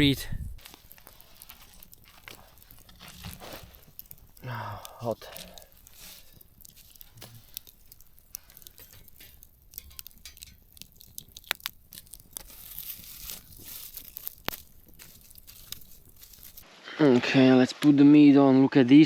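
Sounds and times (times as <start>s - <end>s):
campfire crackling and popping: 0.0s - 16.8s.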